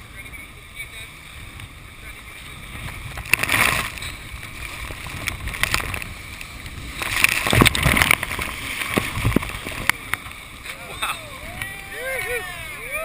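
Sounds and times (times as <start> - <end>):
water crashing and splashing: 0.0 - 13.0.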